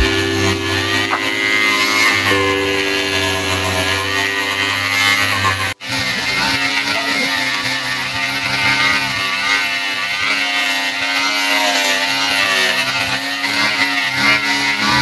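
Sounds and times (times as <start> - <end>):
angle grinder cutting wood: 0.0 - 15.0.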